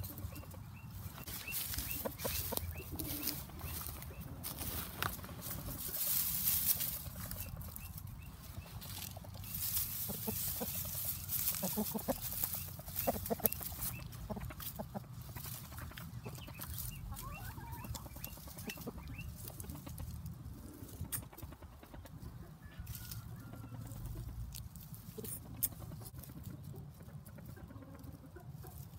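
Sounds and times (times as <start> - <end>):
scratching through dry grass: 0.0 - 22.2, 22.8 - 28.9
rooster clucking: 0.0 - 28.9.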